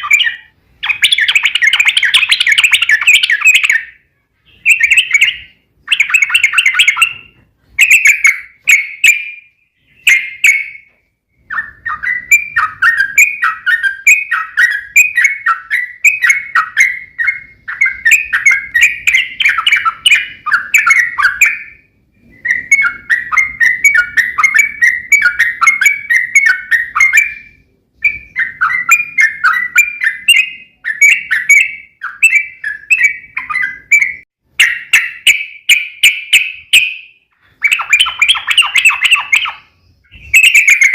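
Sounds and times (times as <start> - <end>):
bulbul warbling song: 0.0 - 40.9.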